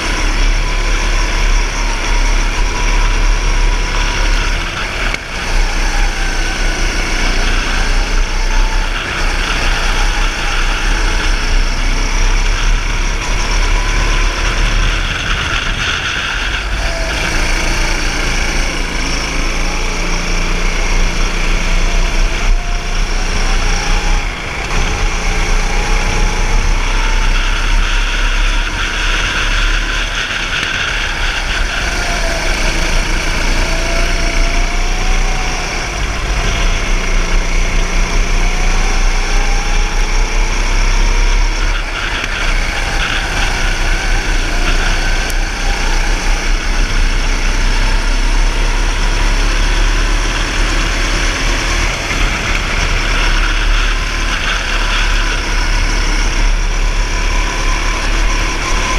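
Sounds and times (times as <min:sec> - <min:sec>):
go-kart engine revving: 0:00.0 - 0:58.9.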